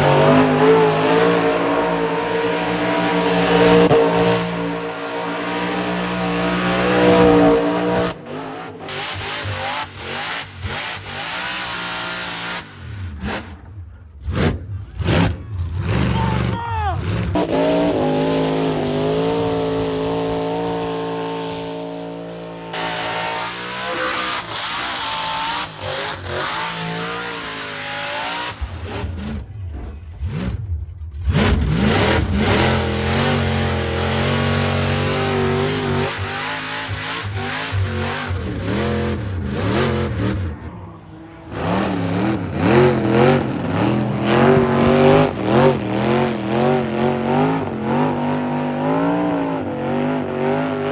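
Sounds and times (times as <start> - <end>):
vehicle engine revving hard: 0.0 - 29.6, 30.2 - 50.9.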